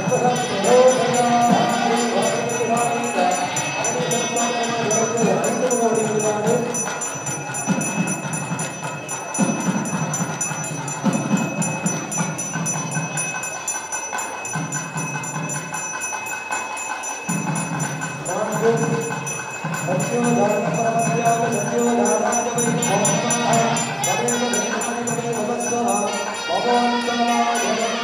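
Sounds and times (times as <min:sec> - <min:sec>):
bells jingling: 0:00.0 - 0:28.0
high ringing tone: 0:00.0 - 0:28.0
ritual music: 0:00.0 - 0:28.0
voices: 0:00.0 - 0:28.0.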